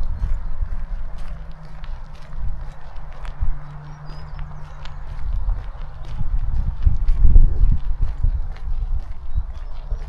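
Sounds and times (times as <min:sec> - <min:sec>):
footsteps on a path: 0:00.0 - 0:10.0
steady low rumble: 0:00.0 - 0:10.0.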